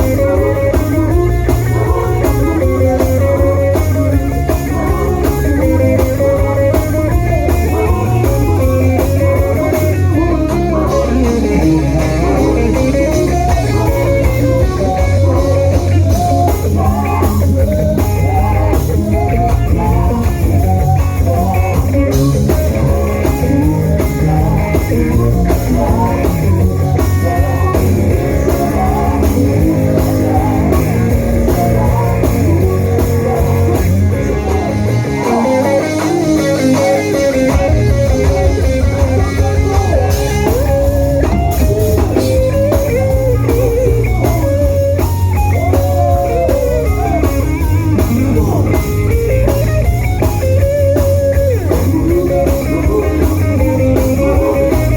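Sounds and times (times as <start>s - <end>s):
bass guitar: 0.0s - 54.9s
drum kit: 0.0s - 54.9s
electric guitar melody: 0.0s - 54.9s.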